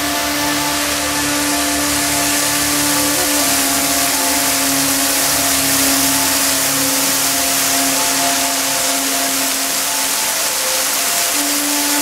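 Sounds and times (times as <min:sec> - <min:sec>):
soft music drone: 0:00.0 - 0:12.0
waterfall splashing onto rocks: 0:00.0 - 0:12.0.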